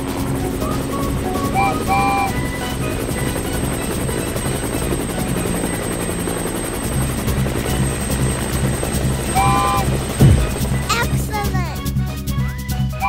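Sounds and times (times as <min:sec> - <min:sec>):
helicopter rotor chop: 0:00.0 - 0:11.9.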